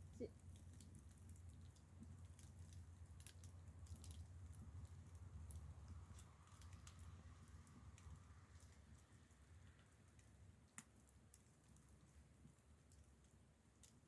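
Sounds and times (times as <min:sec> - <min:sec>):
faint clicks and crackles: 0:00.0 - 0:14.0.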